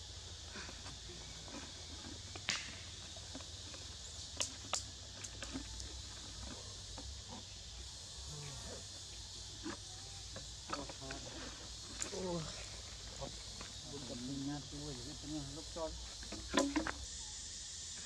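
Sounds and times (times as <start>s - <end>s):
insect chorus hiss: 0.0s - 18.0s.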